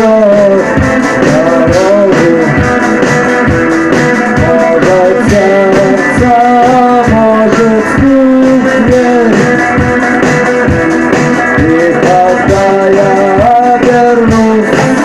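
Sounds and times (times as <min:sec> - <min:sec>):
bass guitar: 0:00.0 - 0:15.0
drum beat: 0:00.0 - 0:15.0
lead guitar melody: 0:00.0 - 0:15.0
rock band playing: 0:00.0 - 0:15.0.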